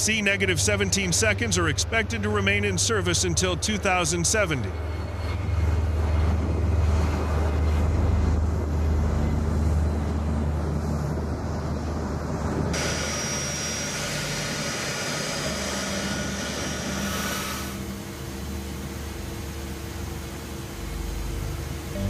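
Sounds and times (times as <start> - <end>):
jet engines whining and roaring: 0.0 - 22.0
low steady engine hum: 0.0 - 22.0.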